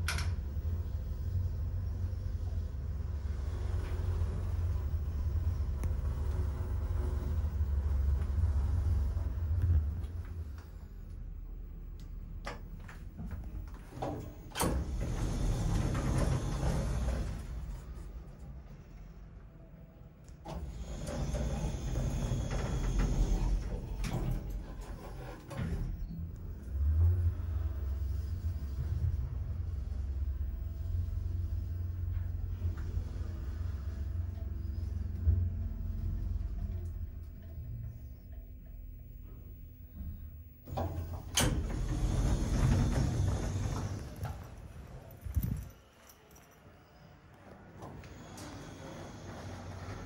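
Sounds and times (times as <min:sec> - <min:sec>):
elevator car rumbling: 0:00.0 - 0:50.0.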